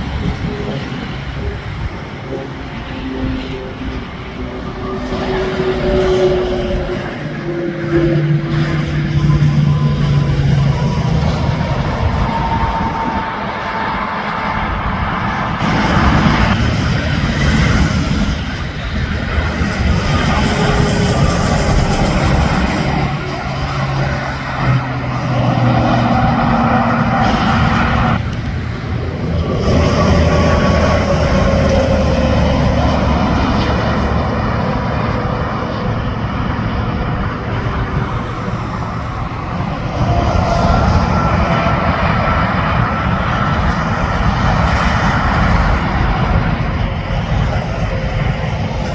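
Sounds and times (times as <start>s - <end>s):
trucks and cars passing: 0.0s - 48.9s.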